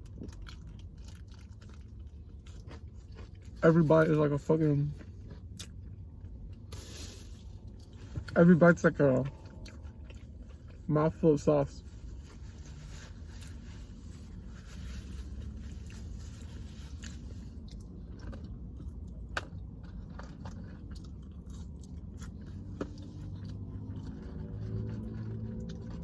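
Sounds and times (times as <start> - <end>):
chewing with wet smacking: 0.0 - 6.8, 7.4 - 13.6, 14.8 - 26.0.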